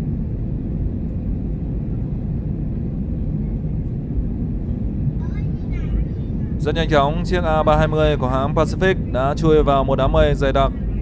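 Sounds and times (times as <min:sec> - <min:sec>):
air rushing in cabin: 0:00.0 - 0:11.0
jet engines rumbling: 0:00.0 - 0:11.0.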